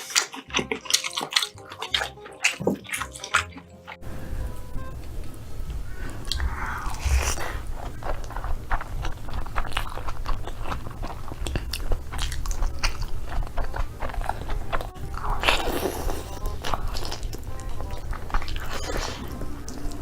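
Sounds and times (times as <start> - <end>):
crunching fried chicken skin: 0.0 - 4.0, 7.0 - 20.0.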